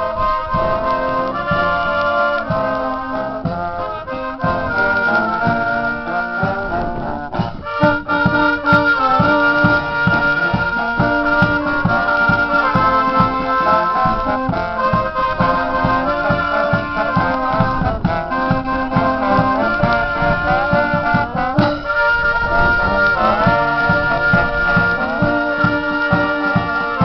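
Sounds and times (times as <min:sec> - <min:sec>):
trumpets playing a tune: 0:00.0 - 0:27.0
bass drum beat: 0:00.6 - 0:27.0.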